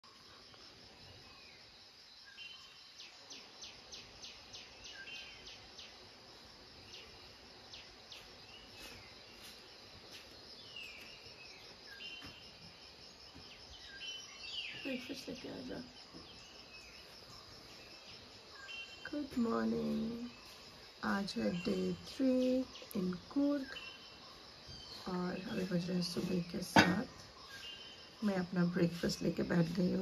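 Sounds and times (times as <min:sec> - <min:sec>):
insects shrill hum: 0:00.1 - 0:30.0.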